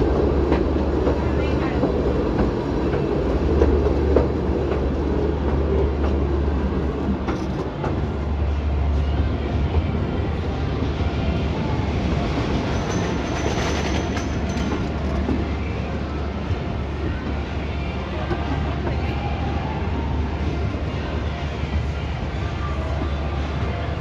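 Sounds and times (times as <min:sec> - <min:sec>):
wheels rumbling on rails: 0:00.0 - 0:24.0.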